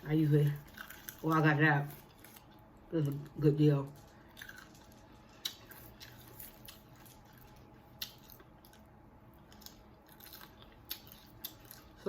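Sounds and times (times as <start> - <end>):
chewing and mouth sounds: 0.4 - 12.0.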